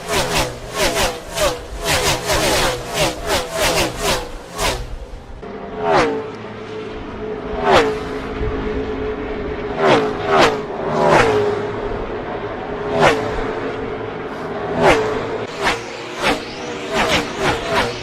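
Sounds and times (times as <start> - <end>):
race cars passing at full speed: 0.0 - 18.0
steady engine drone: 0.0 - 18.0.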